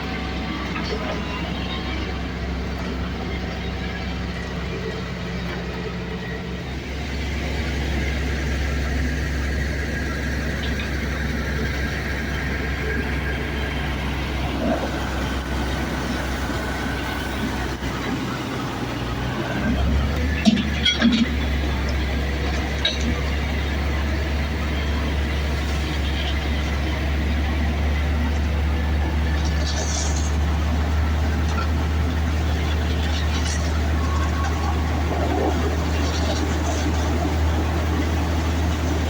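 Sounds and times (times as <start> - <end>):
heavy vehicle engine droning: 0.0 - 39.0.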